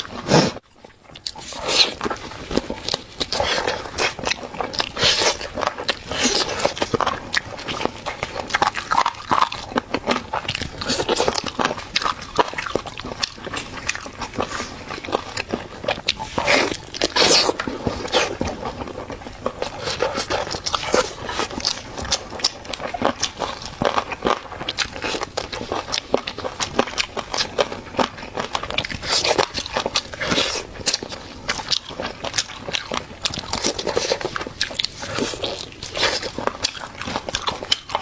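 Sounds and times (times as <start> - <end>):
crunchy chewing and smacking: 0.0 - 38.0.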